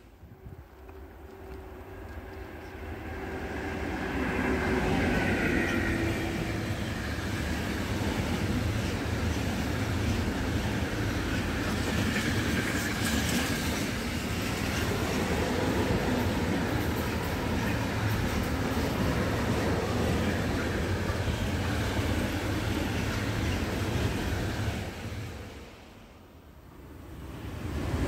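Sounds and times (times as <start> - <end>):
electric locomotive whine: 0.0 - 28.0.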